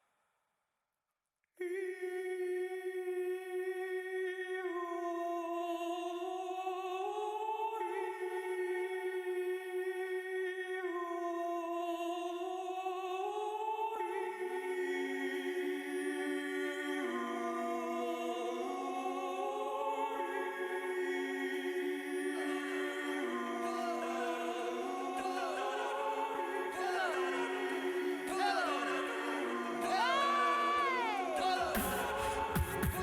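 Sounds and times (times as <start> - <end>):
hummed a cappella voices: 1.6 - 33.0.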